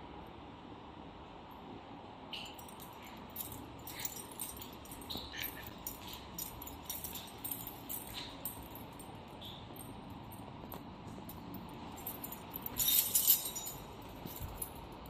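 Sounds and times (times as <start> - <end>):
steady background hum: 0.0 - 15.0
light clicks and jingling: 2.3 - 15.0.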